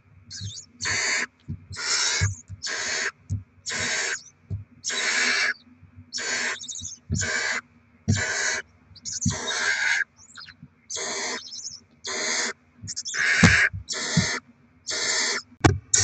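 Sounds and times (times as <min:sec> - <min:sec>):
owl chicks hissing begging calls: 0:00.3 - 0:16.0.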